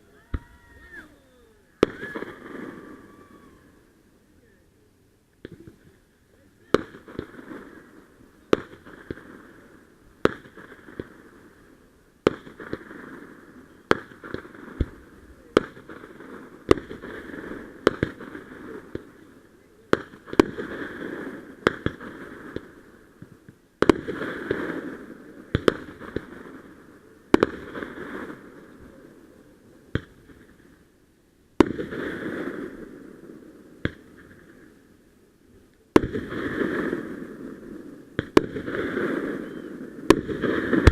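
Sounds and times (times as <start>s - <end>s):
fireworks banging: 0.0s - 3.6s, 6.6s - 11.6s, 12.2s - 29.0s, 29.9s - 30.8s, 31.6s - 34.8s, 35.9s - 40.9s.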